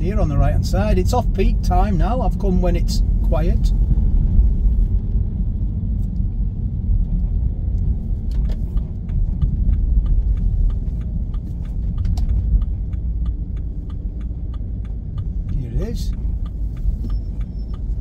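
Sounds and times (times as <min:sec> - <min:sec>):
car road rumble: 0:00.0 - 0:18.0
turn indicator ticking: 0:00.0 - 0:18.0.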